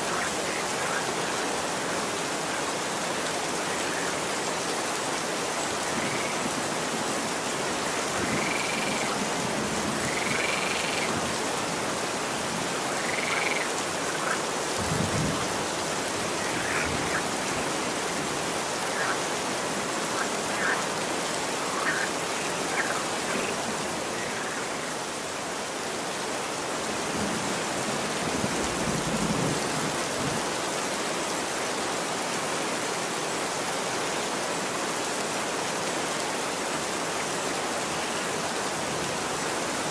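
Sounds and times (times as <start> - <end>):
rain falling on street: 0.0 - 39.9.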